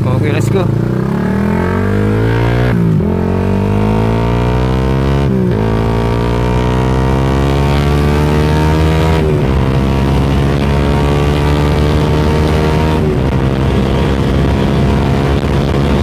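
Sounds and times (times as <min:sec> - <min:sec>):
motorcycle engine accelerating hard: 0:00.0 - 0:16.0.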